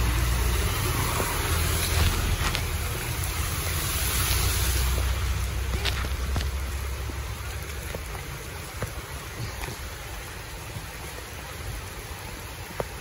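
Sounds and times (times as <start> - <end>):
heavy rain on a road: 0.0 - 13.0.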